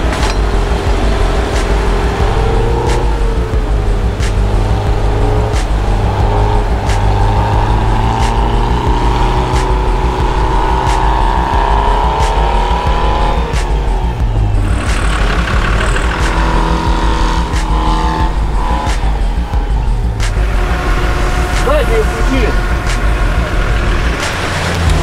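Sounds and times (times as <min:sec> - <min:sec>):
engine running at high revs: 0:00.0 - 0:25.0.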